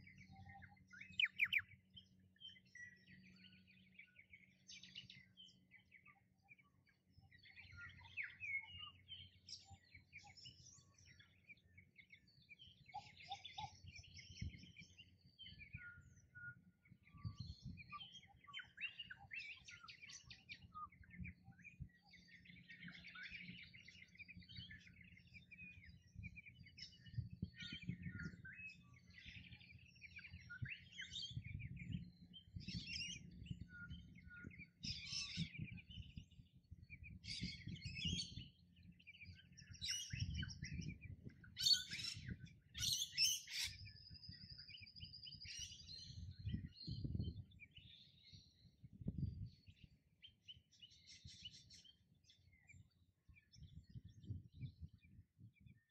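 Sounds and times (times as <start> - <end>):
small birds chirping and twittering: 0.0 - 55.9.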